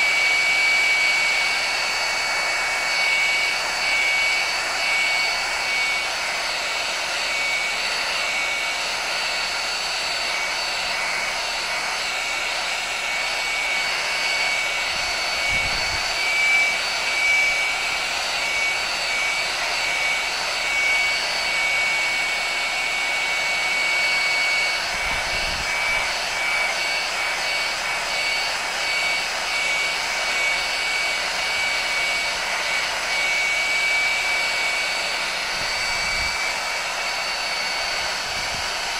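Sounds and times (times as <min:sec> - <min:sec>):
heat gun blowing air: 0:00.0 - 0:38.9.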